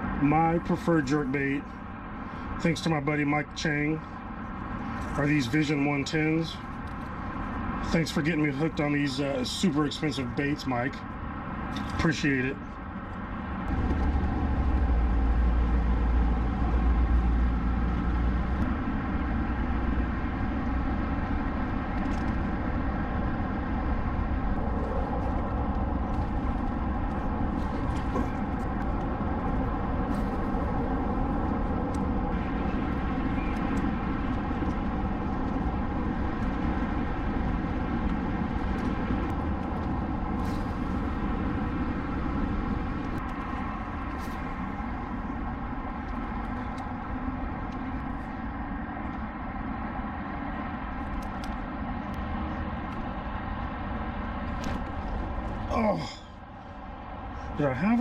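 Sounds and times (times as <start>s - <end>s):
heavy low rumble: 0.0s - 58.0s
road traffic hum: 0.0s - 58.0s.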